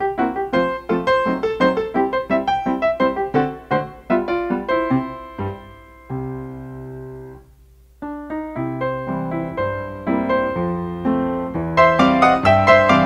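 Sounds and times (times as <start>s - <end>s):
solo piano music: 0.0s - 13.0s.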